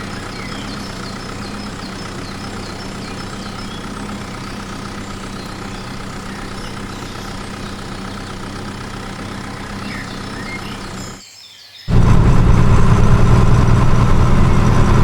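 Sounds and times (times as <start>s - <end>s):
engine idling hum: 0.0s - 11.2s, 11.9s - 15.0s.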